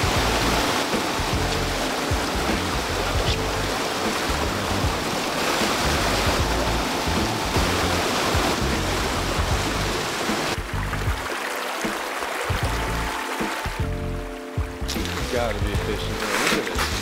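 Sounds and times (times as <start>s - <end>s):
background music: 0.0s - 17.0s
whitewater rushing: 0.0s - 17.0s.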